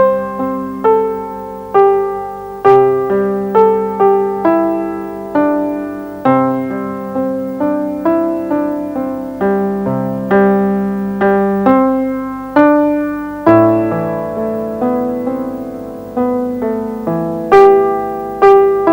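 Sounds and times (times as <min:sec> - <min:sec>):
slow solo piano: 0:00.0 - 0:18.9.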